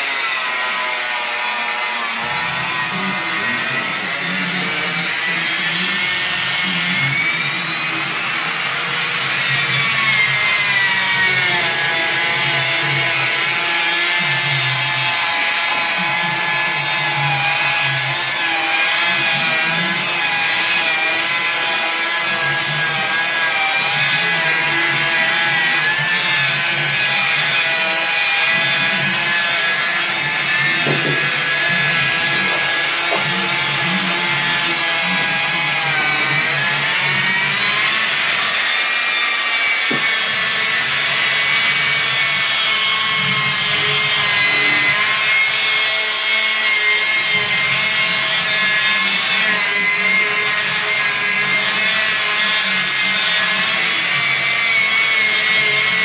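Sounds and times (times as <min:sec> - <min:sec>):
electric polisher whining: 0:00.0 - 0:56.0.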